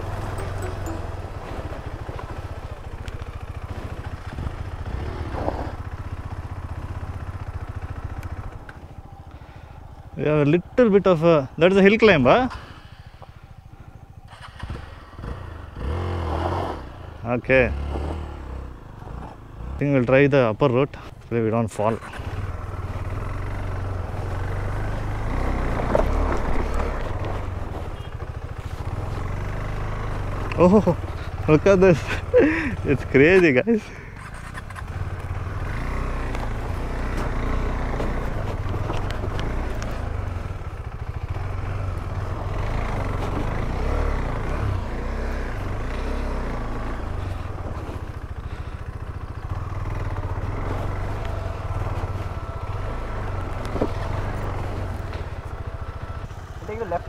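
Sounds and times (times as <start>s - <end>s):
motorcycle engine idling: 0.0s - 16.2s, 16.9s - 57.0s.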